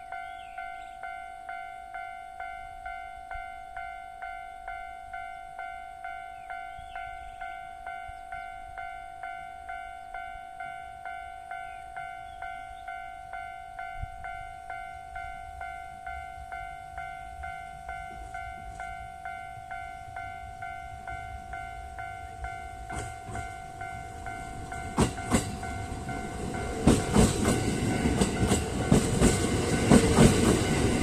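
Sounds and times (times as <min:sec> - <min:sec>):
level-crossing alarm bell ringing: 0:00.0 - 0:31.0.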